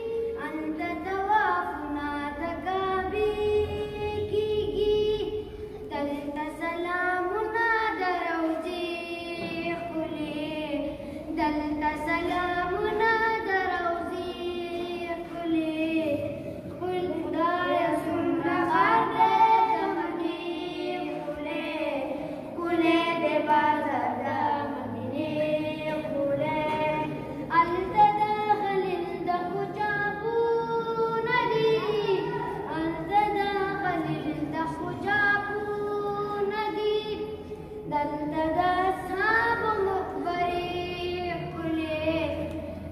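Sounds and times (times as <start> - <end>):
boys singing unaccompanied: 0.0 - 42.9.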